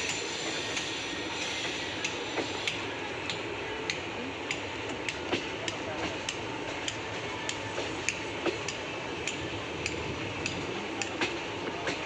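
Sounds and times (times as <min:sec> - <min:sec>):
passenger train rumble: 0:00.0 - 0:12.0.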